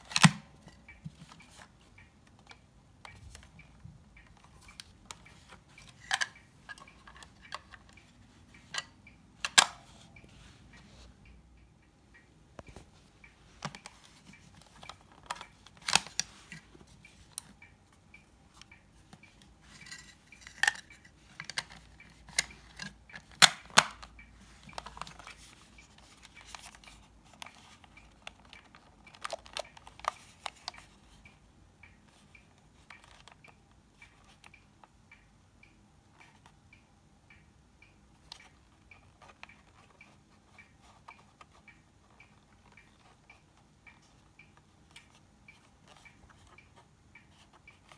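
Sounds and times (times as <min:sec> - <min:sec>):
faint steady ticking: 0:00.0 - 0:47.9.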